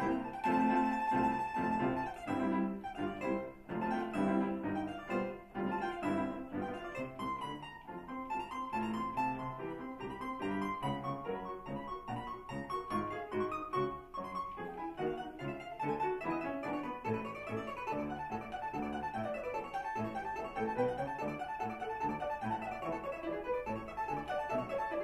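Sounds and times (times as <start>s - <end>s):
piano accompaniment: 0.0s - 25.0s.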